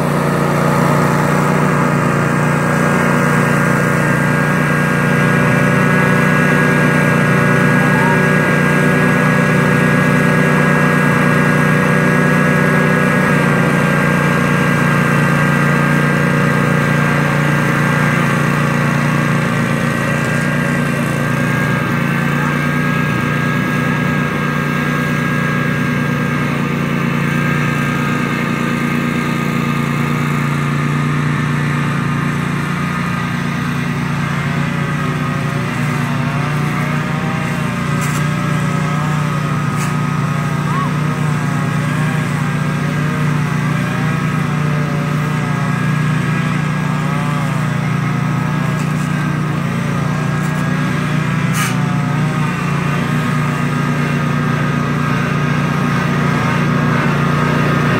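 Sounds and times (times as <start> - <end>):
riding lawn mower engine: 0.0 - 57.9.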